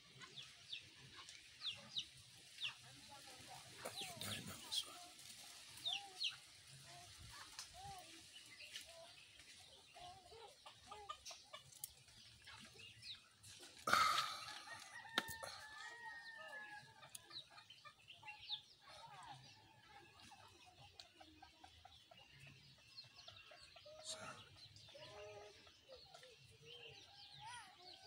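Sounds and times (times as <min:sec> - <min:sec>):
chickens clucking: 0:00.0 - 0:27.9.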